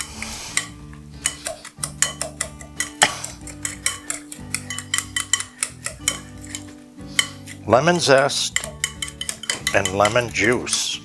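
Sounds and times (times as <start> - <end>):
utensil scraping glass bowl: 0.0 - 10.7.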